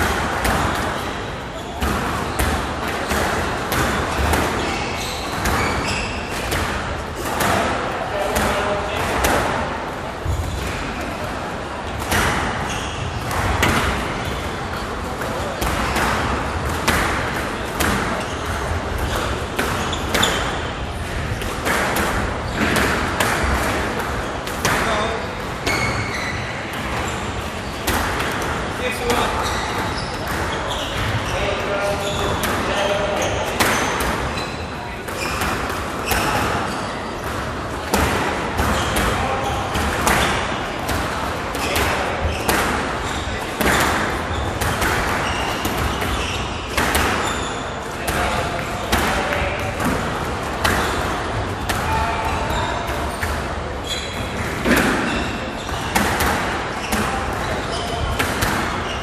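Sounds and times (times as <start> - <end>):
squash ball hitting rackets and walls: 0.0 - 59.0
shoes squeaking on court: 0.5 - 9.4, 11.9 - 23.1, 24.2 - 40.9, 41.5 - 49.9, 50.5 - 59.0.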